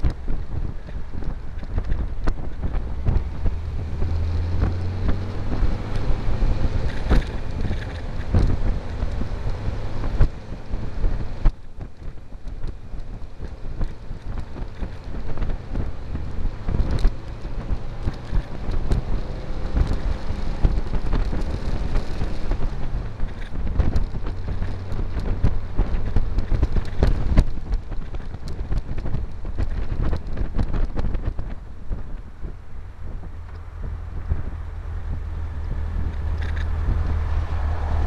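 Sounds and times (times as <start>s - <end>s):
buggy engine running: 0.0s - 38.0s
wind buffeting microphone: 0.0s - 38.0s.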